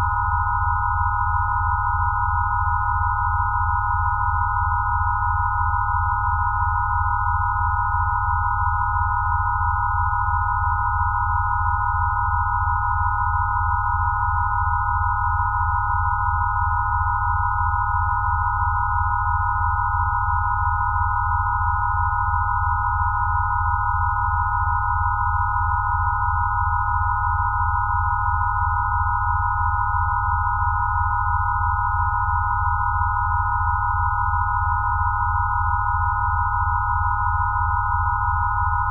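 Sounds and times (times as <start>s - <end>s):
steady electronic sine tones: 0.0s - 38.9s.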